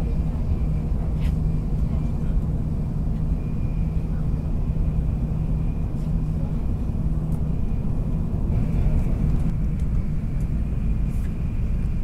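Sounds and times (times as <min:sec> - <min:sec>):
constant low hum: 0:00.0 - 0:12.0
train cabin rumble: 0:00.0 - 0:12.0.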